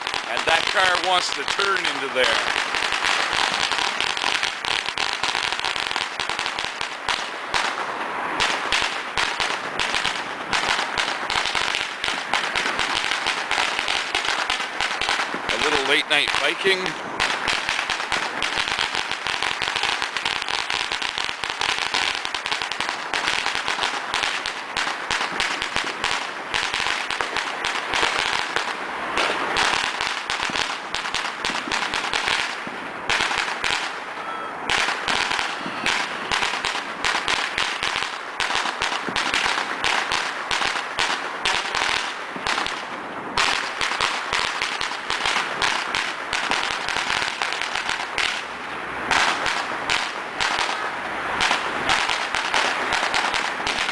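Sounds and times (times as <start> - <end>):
firecrackers crackling: 0.0 - 53.9.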